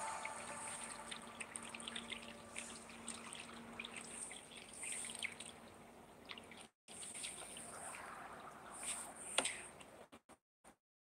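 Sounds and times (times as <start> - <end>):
water dripping and trickling: 0.0 - 9.6.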